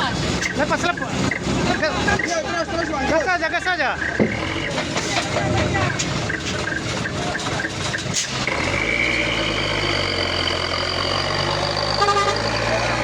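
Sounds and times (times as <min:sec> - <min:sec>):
heavy truck engine: 0:00.0 - 0:13.0.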